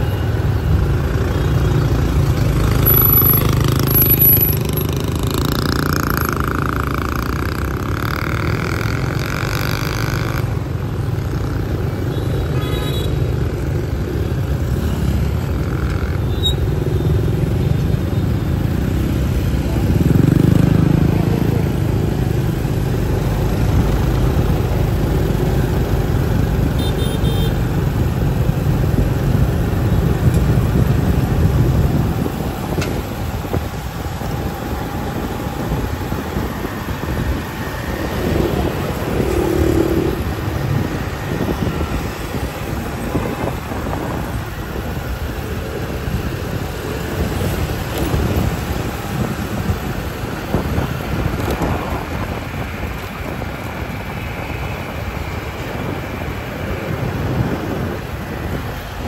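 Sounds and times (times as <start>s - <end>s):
motorbikes and cars passing: 0.0s - 59.0s.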